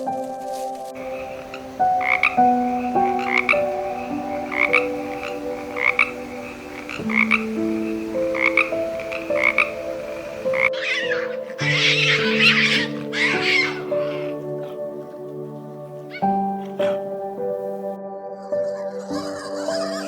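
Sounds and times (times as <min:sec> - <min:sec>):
background music of slow held notes: 0:00.0 - 0:20.0
frog croaking: 0:01.0 - 0:17.4.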